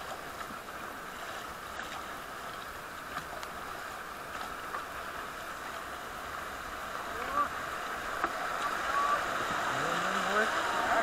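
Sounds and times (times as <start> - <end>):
paddles splashing in water: 0.0 - 11.0
river water rushing: 0.0 - 11.0.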